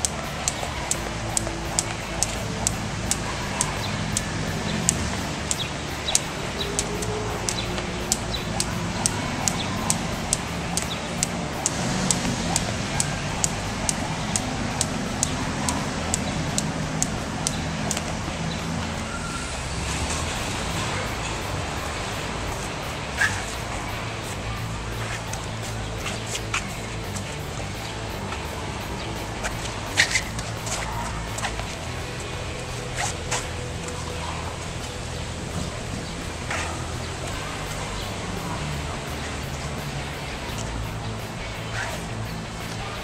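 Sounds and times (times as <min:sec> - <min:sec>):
jump rope slapping asphalt: 0:00.0 - 0:19.0, 0:20.1 - 0:43.0
street traffic hum: 0:00.0 - 0:43.0.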